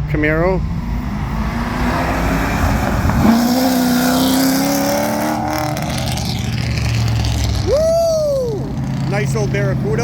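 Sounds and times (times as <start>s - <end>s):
car accelerating hard: 0.4s - 10.0s.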